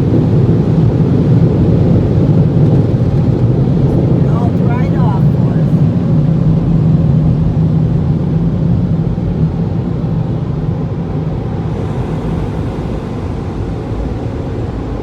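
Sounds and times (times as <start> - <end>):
car wash dryer blowers: 0.0 - 15.0.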